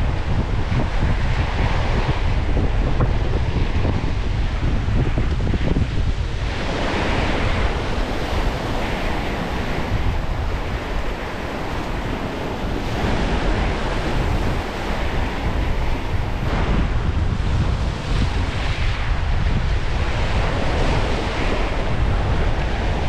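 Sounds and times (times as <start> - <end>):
strong wind buffeting microphone: 0.0 - 23.0
waves washing in and out: 0.0 - 23.0.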